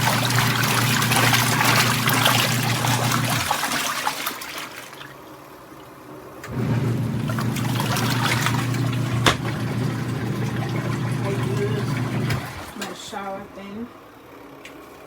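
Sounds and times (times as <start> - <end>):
water churning in washing machine: 0.0 - 13.5
washing machine motor hum: 0.0 - 15.0.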